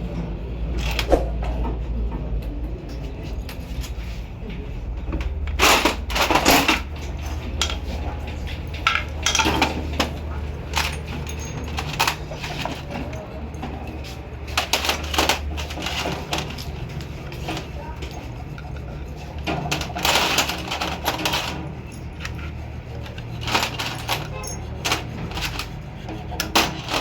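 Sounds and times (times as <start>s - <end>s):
metal engine parts clattering: 5.1s - 27.0s.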